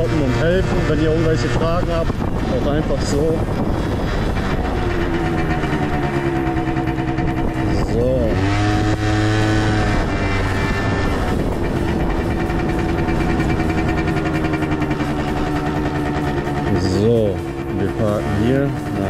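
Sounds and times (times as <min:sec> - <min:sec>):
scooter engine running: 0:00.0 - 0:19.0.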